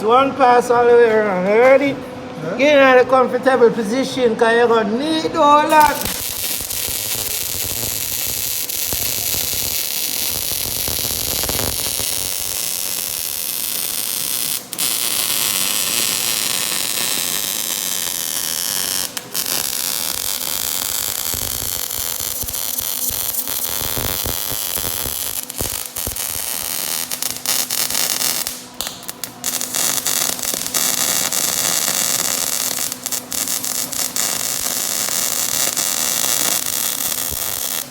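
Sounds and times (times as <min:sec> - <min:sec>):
arc welding crackling hiss: 0:05.7 - 0:37.9.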